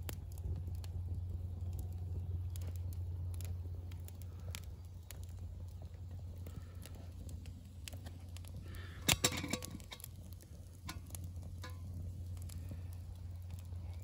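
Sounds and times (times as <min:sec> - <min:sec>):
steady low hum: 0:00.0 - 0:14.0
stick fire crackling: 0:00.0 - 0:14.0.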